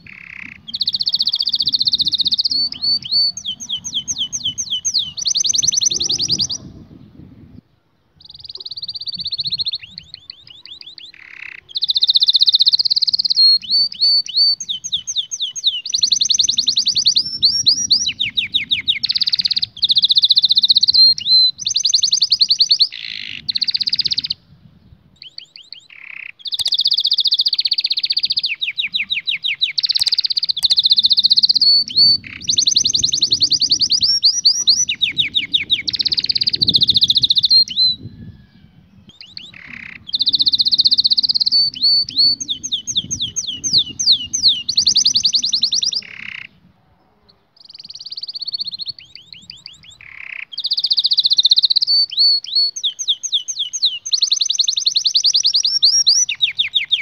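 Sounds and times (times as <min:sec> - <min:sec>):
canary singing trills: 0:00.0 - 0:07.1, 0:08.2 - 0:46.6, 0:47.2 - 0:57.0.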